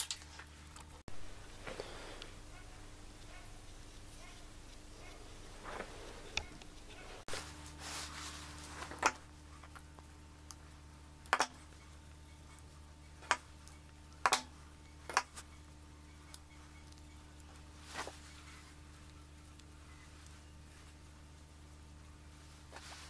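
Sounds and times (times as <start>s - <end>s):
steady low hum: 0.1s - 23.0s.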